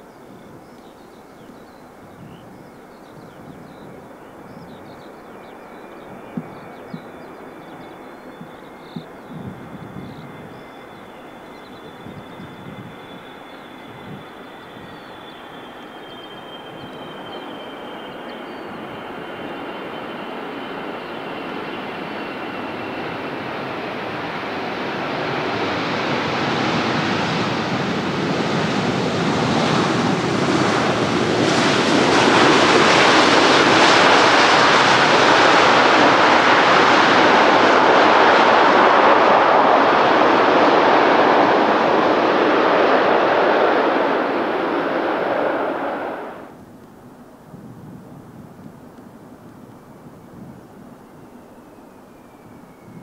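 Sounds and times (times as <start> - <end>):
jet airliner engines roaring: 0.0 - 53.0.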